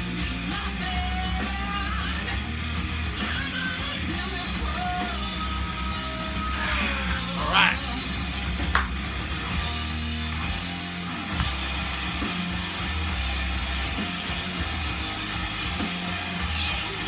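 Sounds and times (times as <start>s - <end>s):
rock music from vinyl record: 0.0s - 17.0s.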